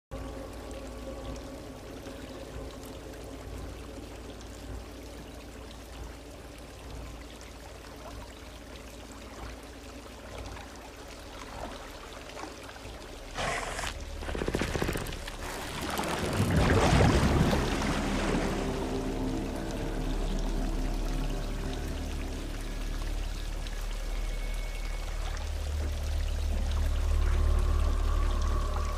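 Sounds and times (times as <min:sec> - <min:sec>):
water trickling: 0:00.1 - 0:28.9
water pouring and splashing: 0:00.3 - 0:24.4.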